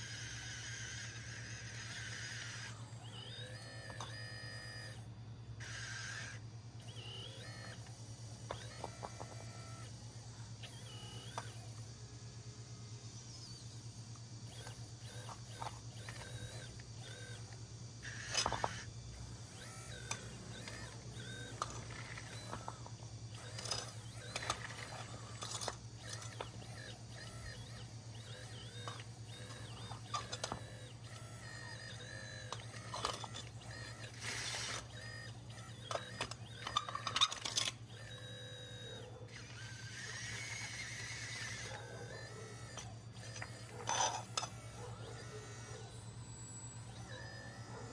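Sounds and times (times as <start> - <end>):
hydraulic pump hum: 0.0 - 47.9
servo whines and clicks: 0.0 - 47.9.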